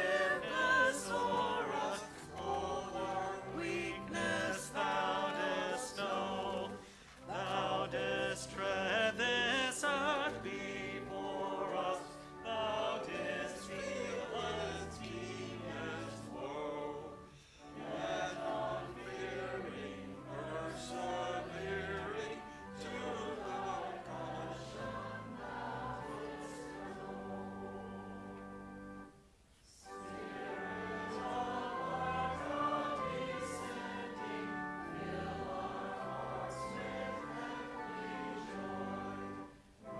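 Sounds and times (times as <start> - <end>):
choir singing with vibrato: 0.0 - 39.9.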